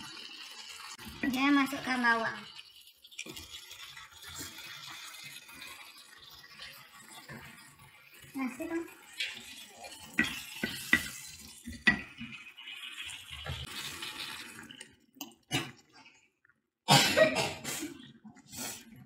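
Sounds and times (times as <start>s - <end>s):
water pouring: 0.0s - 16.5s.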